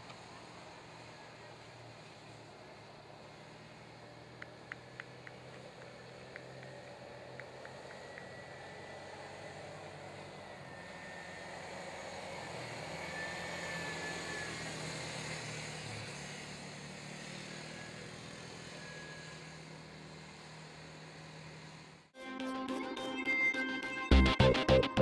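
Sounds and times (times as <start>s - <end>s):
quad engines racing: 0.0s - 22.1s.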